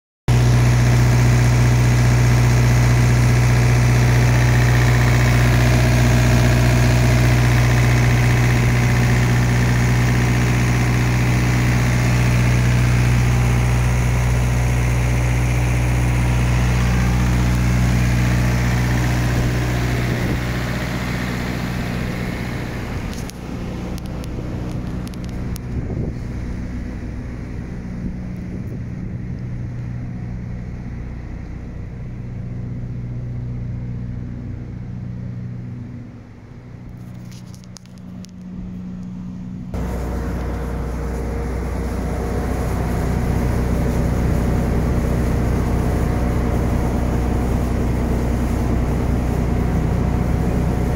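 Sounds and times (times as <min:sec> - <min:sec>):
diesel engine running: 0:00.3 - 0:50.9.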